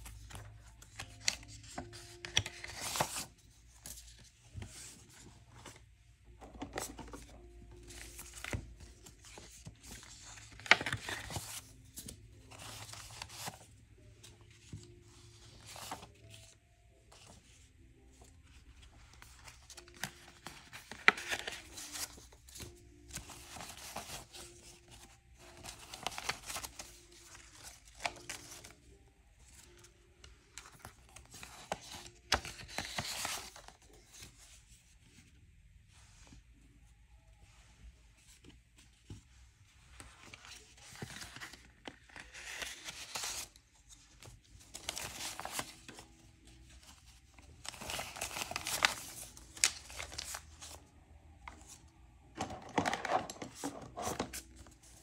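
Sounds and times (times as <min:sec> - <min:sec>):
paper and banknotes rustling: 0:00.0 - 0:35.3, 0:37.8 - 0:50.8.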